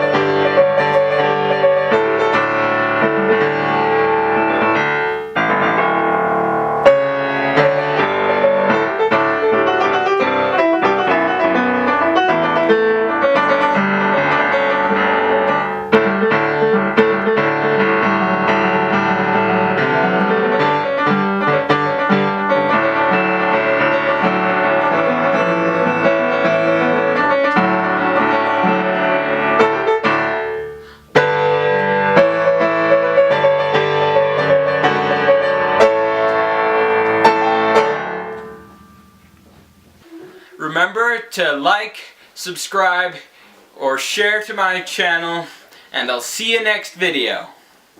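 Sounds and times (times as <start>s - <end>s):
fast solo piano: 0.0s - 40.5s.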